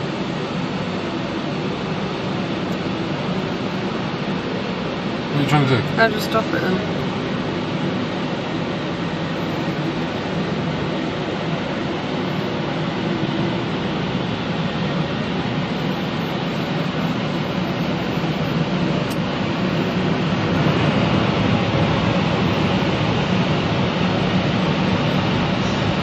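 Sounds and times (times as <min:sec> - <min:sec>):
car wash machinery rushing: 0:00.0 - 0:26.0.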